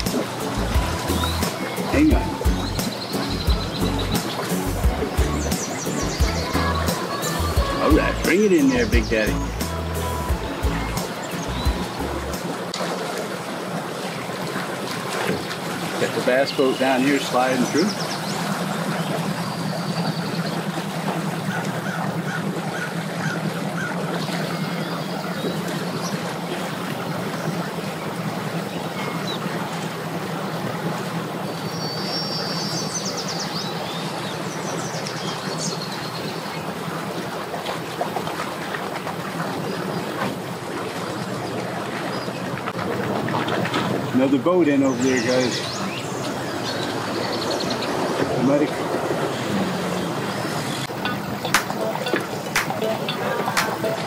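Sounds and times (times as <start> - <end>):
outboard motor running: 0.0 - 54.0
propeller churning water: 0.0 - 54.0.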